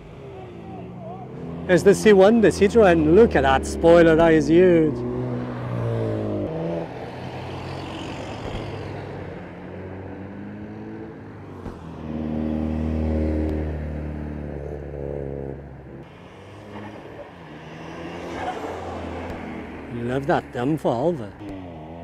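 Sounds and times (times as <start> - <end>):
car driving off: 0.0 - 22.0
car passing: 0.0 - 22.0.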